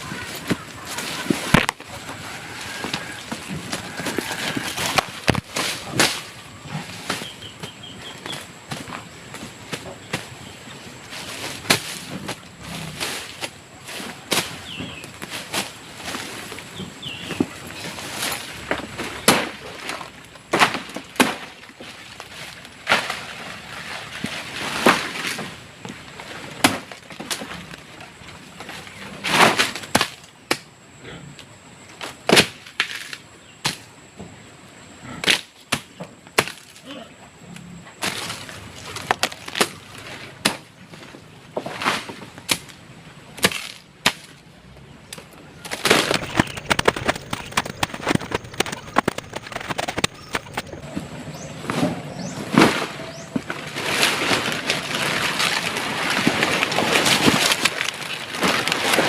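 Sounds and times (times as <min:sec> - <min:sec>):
scraping and crunching: 0:00.0 - 0:30.4, 0:37.6 - 0:59.0.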